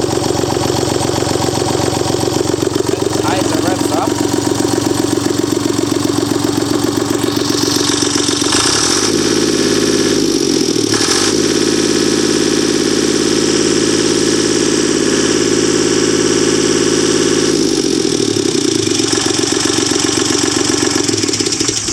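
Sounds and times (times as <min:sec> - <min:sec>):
diesel engine idling and revving: 0:00.0 - 0:21.9.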